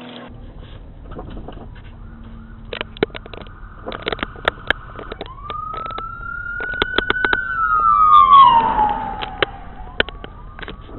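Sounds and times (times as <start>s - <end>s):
emergency vehicle siren wailing: 0.3s - 10.9s.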